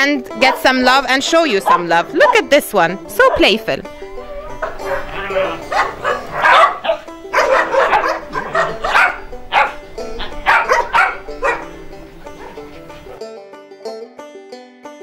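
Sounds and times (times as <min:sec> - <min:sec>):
background music: 0:00.0 - 0:15.0
dogs barking: 0:00.4 - 0:13.2.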